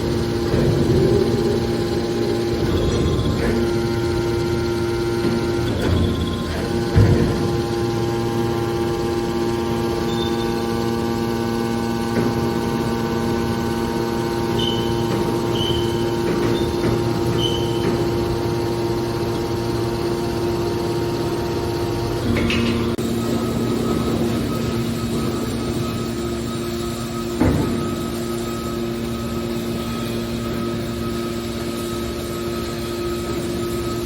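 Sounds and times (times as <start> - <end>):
hydraulic baler pump humming: 0.0 - 34.0.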